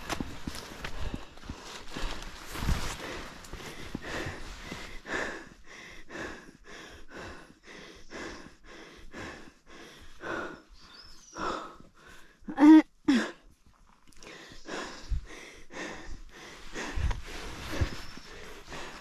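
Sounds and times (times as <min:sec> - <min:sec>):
person panting: 0:00.0 - 0:13.5, 0:14.2 - 0:19.0.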